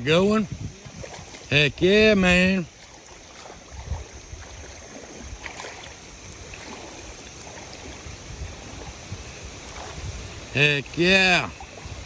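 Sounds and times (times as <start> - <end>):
water splashing and lapping: 0.0 - 12.0.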